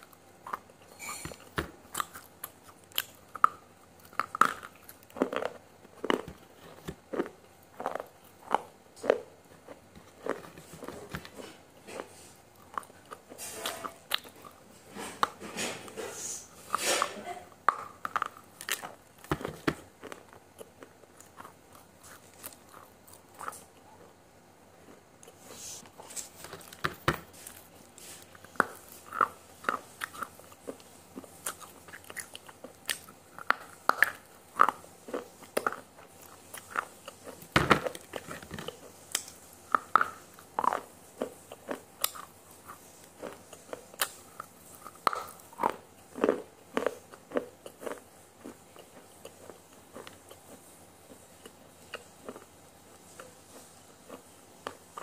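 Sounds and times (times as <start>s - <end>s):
crunchy biting and chewing: 0.0s - 17.1s, 17.7s - 24.2s, 24.8s - 55.0s.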